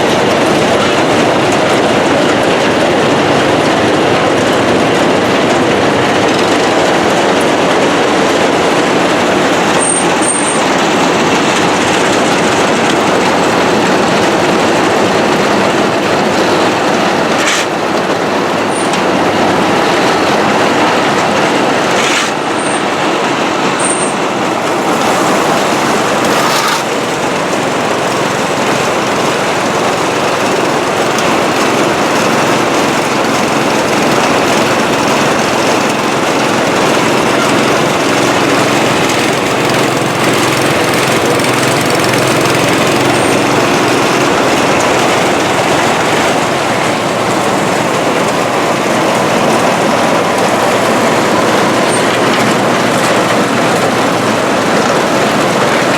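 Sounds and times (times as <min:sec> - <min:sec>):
farm machinery running: 0:00.0 - 0:55.9.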